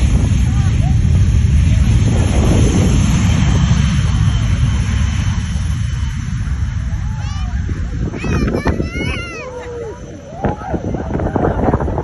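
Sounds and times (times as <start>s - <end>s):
jet airliner roaring: 0.0s - 12.0s
wind buffeting microphone: 0.0s - 12.0s.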